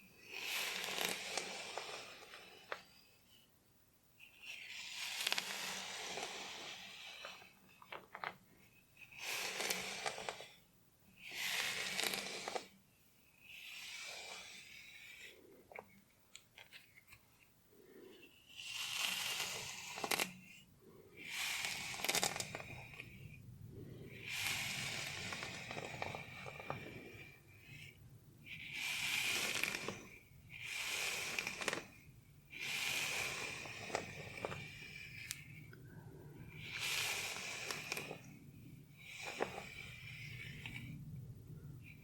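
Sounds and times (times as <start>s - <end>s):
scalp scratching: 0.3s - 3.2s, 4.2s - 10.6s, 11.2s - 12.8s, 16.6s - 23.4s, 24.1s - 35.8s, 36.4s - 41.0s.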